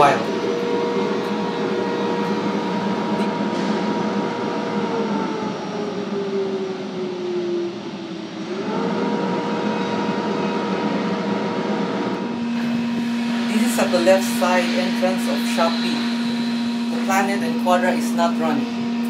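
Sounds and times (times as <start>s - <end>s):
vacuum blower whining: 0.0s - 19.0s.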